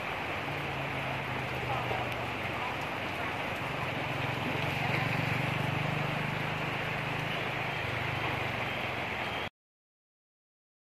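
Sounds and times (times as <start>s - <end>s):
low engine hum: 0.0s - 9.4s
steady rain: 0.0s - 9.5s.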